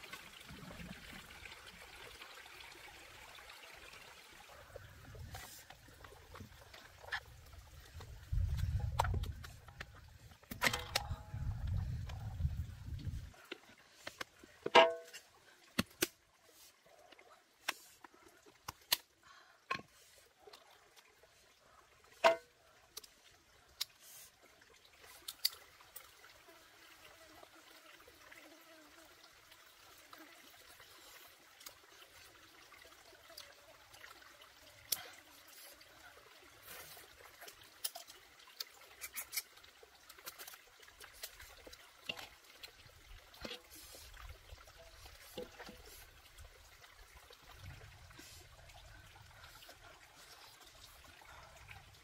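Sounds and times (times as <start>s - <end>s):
faint trickling water: 0.0s - 52.0s.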